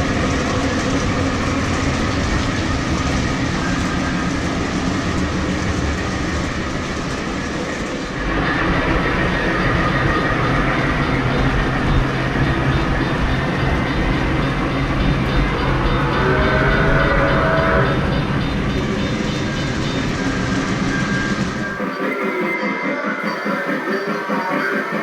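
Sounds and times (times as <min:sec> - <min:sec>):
model train rolling on track: 0:00.0 - 0:22.6, 0:23.2 - 0:25.0.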